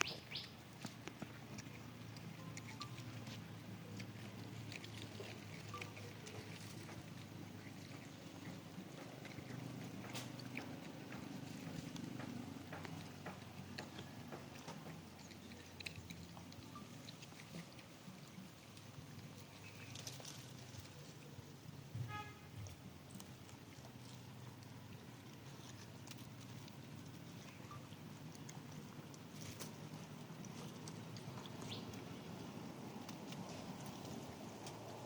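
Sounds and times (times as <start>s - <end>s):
monkeys chewing fruit: 0.0s - 21.3s, 23.1s - 35.0s.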